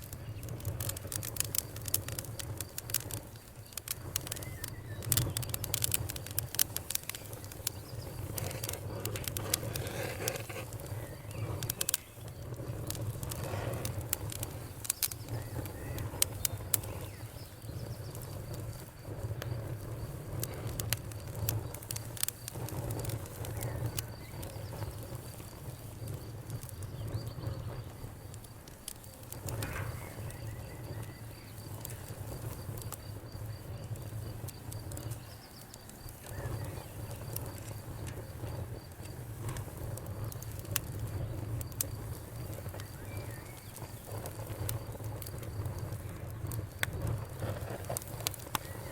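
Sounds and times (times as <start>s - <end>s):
crickets chirping: 0.0s - 48.9s
wood fire crackling and popping: 0.0s - 48.9s.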